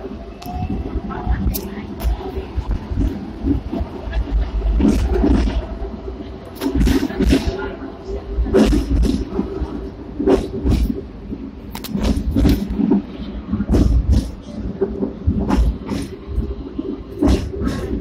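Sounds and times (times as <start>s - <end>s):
tram clacks and rattles: 0.0s - 18.0s
tram rumbling and humming: 0.0s - 18.0s.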